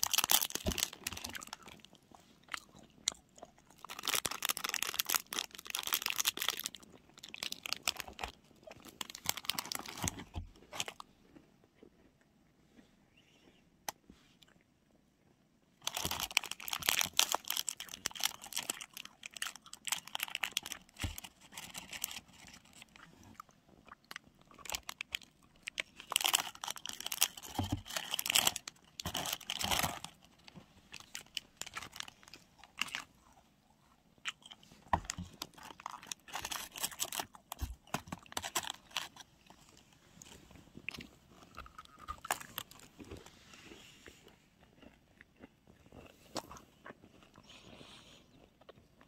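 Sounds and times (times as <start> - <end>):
crunching and chewing snack: 0.0 - 12.6, 15.7 - 49.0.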